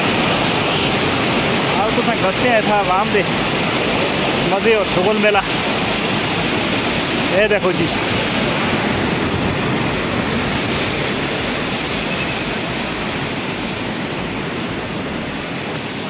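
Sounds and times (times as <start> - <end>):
water rushing through dam outlet: 0.0 - 16.0.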